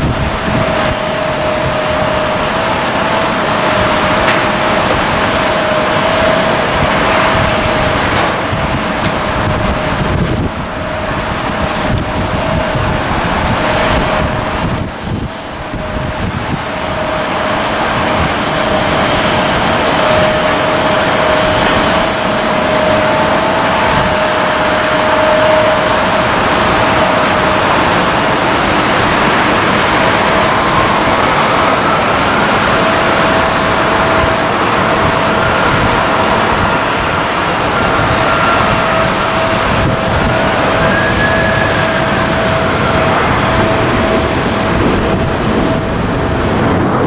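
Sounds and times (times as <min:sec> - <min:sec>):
higher rising whine: 0:00.0 - 0:47.0
jet engines rushing and whining: 0:00.0 - 0:47.0.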